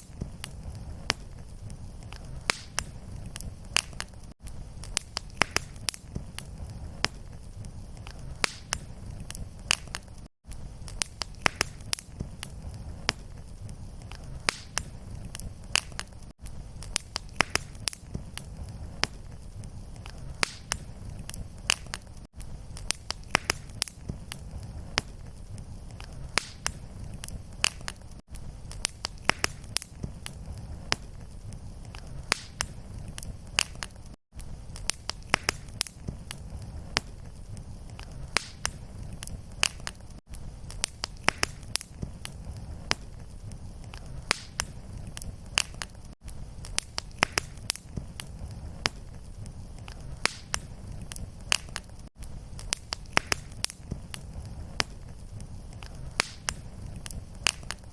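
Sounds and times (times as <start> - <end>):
fireplace fire crackling: 0.0 - 57.9.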